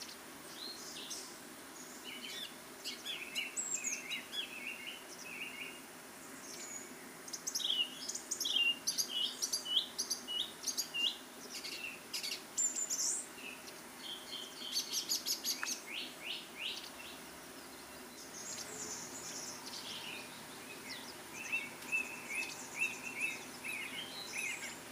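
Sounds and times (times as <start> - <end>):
small birds chirping and trilling: 0.0 - 24.9.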